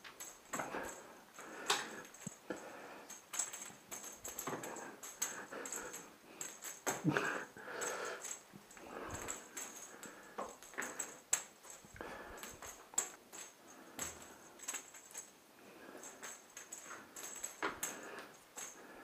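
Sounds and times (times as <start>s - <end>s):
light jingling: 0.0s - 19.0s.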